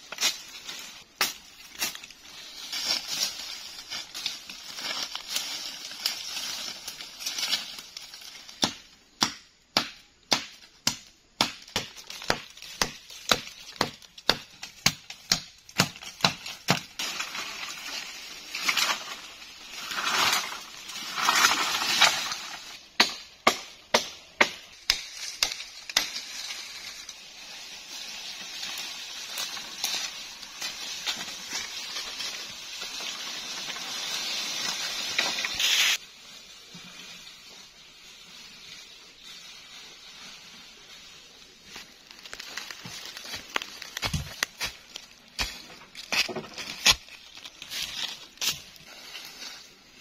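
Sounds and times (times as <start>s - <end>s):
rustle of undergrowth: 0.0s - 8.7s, 15.6s - 23.0s, 24.2s - 50.0s
rustling of leaves and branches: 0.0s - 9.2s, 10.3s - 50.0s.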